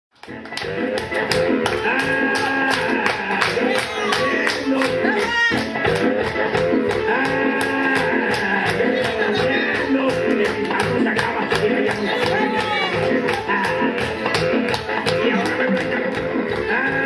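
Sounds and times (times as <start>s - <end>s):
upbeat dance music: 0.2s - 17.0s.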